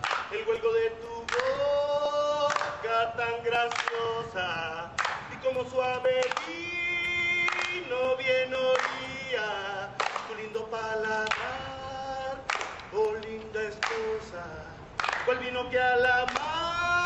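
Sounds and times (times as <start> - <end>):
voices singing without instruments: 0.0 - 17.0.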